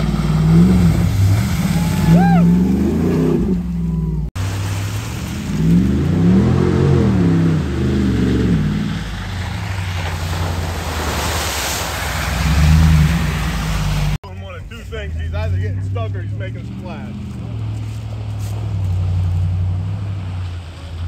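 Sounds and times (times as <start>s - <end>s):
mud and water splashing: 0.0s - 21.0s
truck engine revving: 0.0s - 21.0s.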